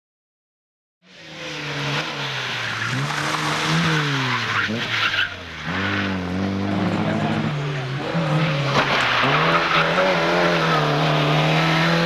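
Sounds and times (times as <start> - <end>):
car engine revving hard: 1.1 - 12.0
tyre and road noise: 1.1 - 12.0.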